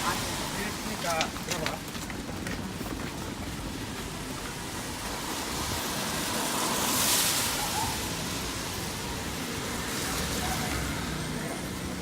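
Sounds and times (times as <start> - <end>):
light rain on wet street: 0.0 - 12.0.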